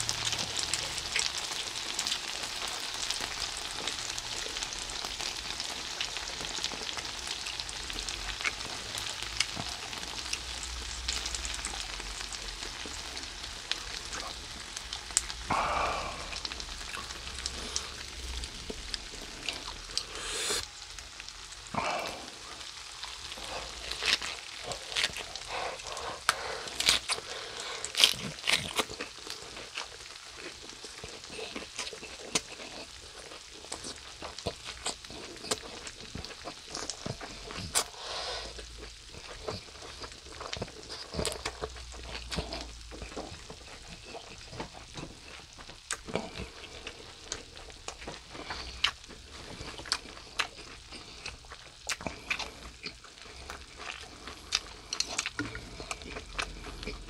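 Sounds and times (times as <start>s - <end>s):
fat crackling and popping: 0.0s - 57.0s
meat and vegetables sizzling: 0.0s - 57.0s.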